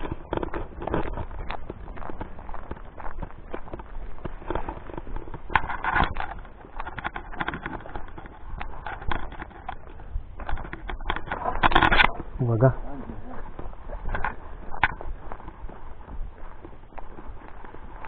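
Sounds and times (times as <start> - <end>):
footsteps on gravelly ground: 0.0 - 18.0.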